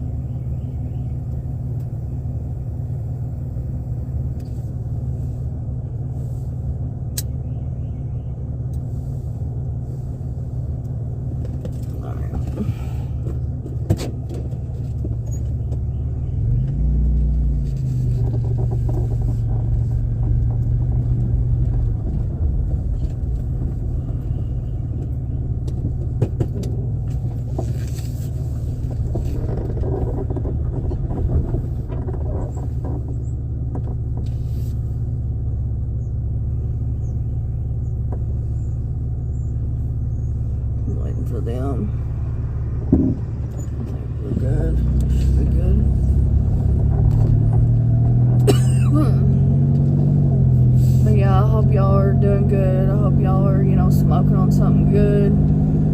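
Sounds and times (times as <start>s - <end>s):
car engine droning: 0.0s - 55.9s
deep loud hum: 0.0s - 55.9s.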